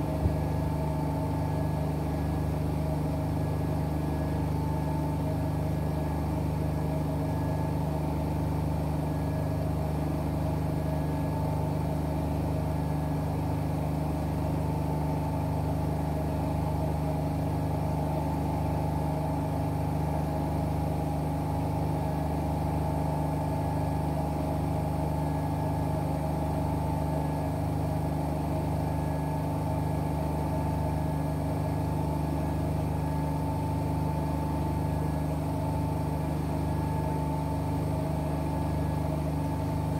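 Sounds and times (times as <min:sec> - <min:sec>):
washing machines running: 0:00.0 - 0:39.9.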